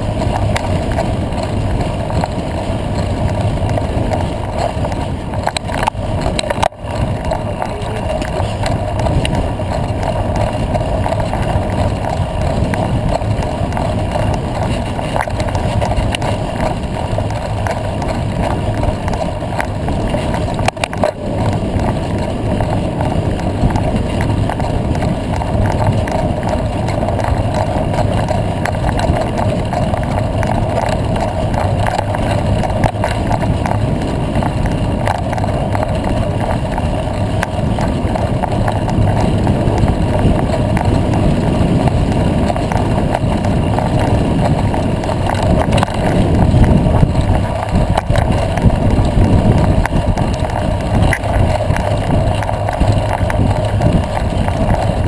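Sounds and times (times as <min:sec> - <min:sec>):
bicycle rattles and clicks: 0:00.0 - 0:55.0
bicycle tyre noise: 0:00.0 - 0:55.0
wind on microphone: 0:00.0 - 0:55.0.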